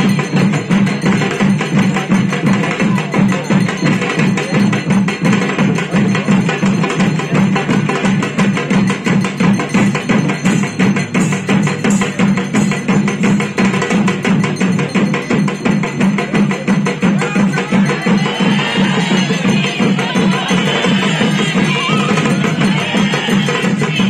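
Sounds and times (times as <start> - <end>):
fast hand drumbeat: 0.0 - 24.0.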